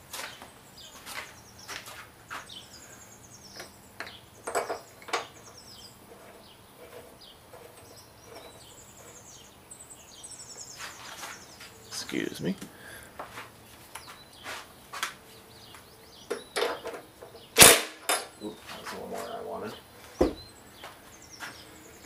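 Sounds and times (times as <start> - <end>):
small birds chirping trills: 0.0 - 22.0.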